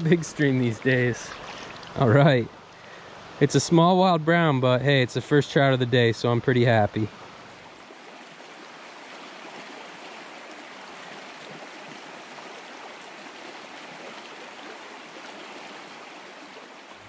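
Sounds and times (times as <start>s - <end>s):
stream flowing over stones: 0.0s - 4.5s, 6.3s - 17.0s.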